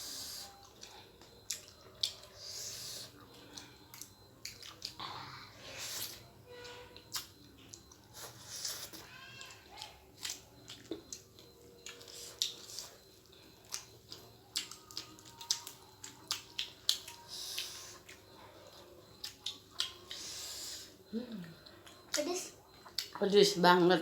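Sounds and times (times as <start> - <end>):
person chewing and slurping noodles: 0.0 - 21.0.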